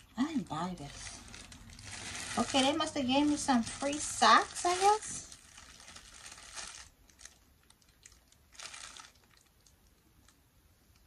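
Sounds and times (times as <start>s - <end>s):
plastic packaging crinkling: 0.4s - 10.4s.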